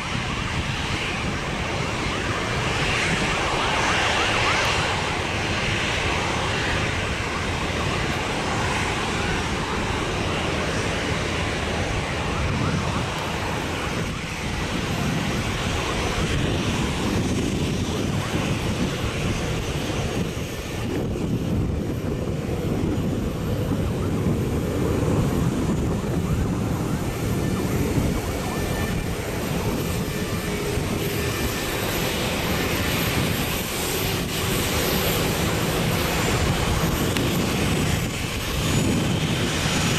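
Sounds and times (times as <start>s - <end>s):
jet engine hiss: 0.0s - 39.9s
jet engines rumbling at taxi: 0.0s - 39.9s.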